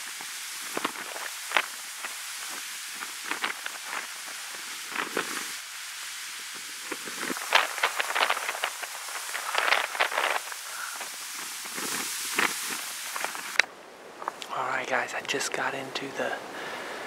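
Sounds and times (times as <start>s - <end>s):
dry leaves crackling and rustling: 0.0s - 14.4s.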